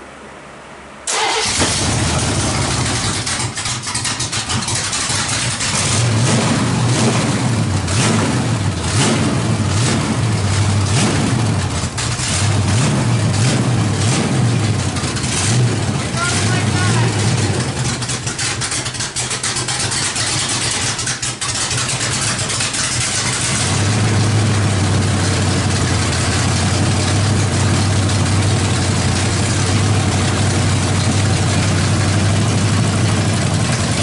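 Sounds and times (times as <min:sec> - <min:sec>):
loud engine revving and idling: 0:01.3 - 0:34.0.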